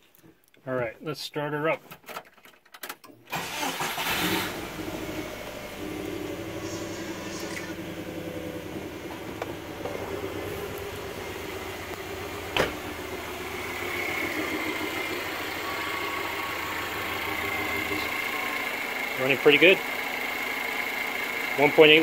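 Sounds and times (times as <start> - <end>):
car engine idling: 3.3 - 22.0.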